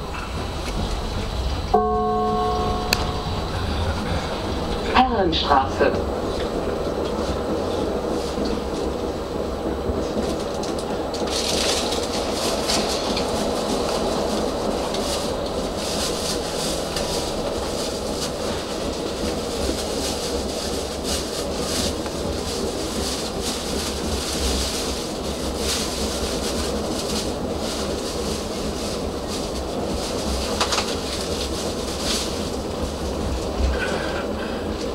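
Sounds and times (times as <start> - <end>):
tram wheels rumbling: 0.0 - 34.9
wheels clicking over rails: 0.0 - 34.9.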